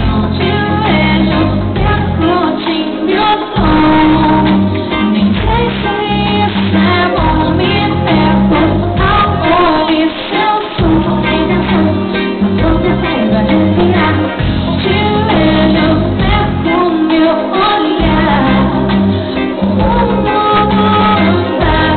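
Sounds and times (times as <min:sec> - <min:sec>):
live pop band with heavy bass: 0:00.0 - 0:21.9
woman singing: 0:00.0 - 0:21.9.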